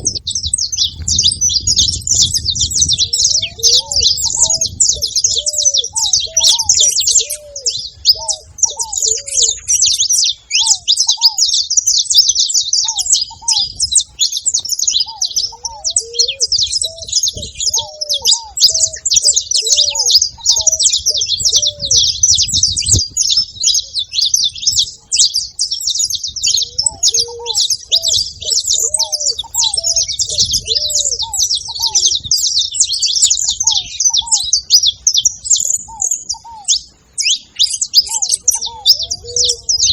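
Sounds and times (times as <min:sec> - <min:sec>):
finch singing and chirping: 0:00.0 - 0:39.9
lower arched bird notes: 0:00.0 - 0:39.9.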